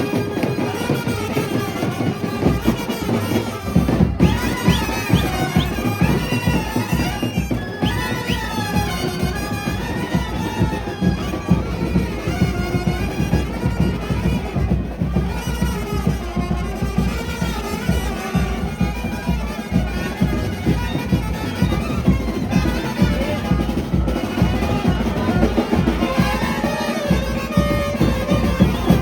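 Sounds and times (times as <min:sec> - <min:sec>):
brass band horns melody: 0:00.0 - 0:29.0
drums beating fast: 0:00.0 - 0:29.0.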